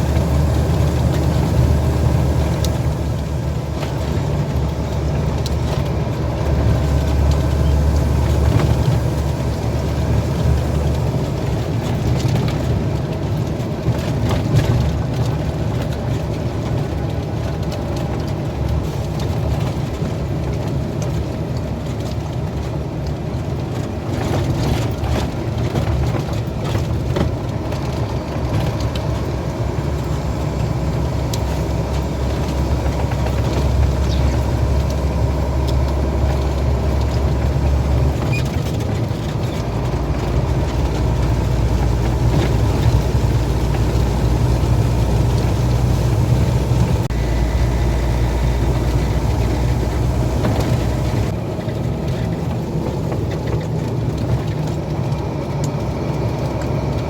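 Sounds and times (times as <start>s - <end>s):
road noise: 0.0s - 57.0s
truck engine drone: 0.0s - 57.0s.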